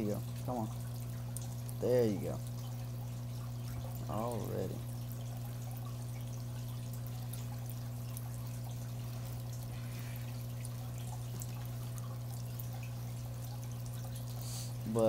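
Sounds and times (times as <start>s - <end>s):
steady low hum: 0.0s - 15.0s
water trickling and dripping: 0.0s - 15.0s.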